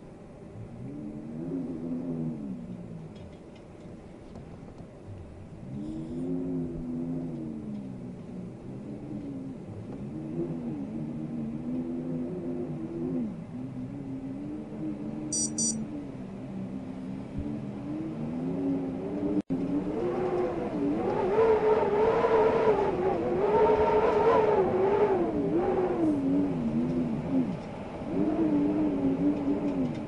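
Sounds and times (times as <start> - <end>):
wind howling: 3.9 - 30.0.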